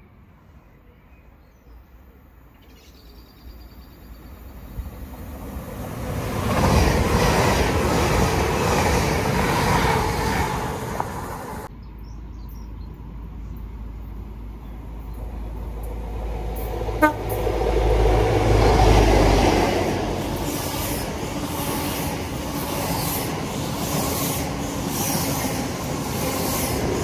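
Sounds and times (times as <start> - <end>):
train passing at speed: 3.3 - 12.3, 12.9 - 27.0.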